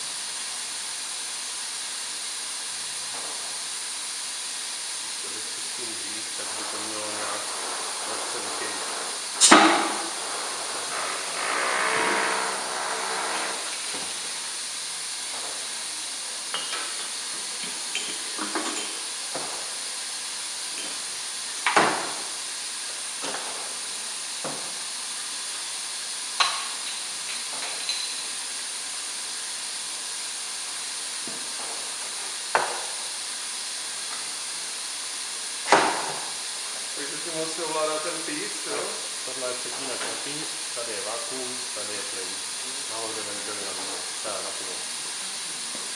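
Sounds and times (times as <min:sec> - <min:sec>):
steady hiss: 0:00.0 - 0:45.9.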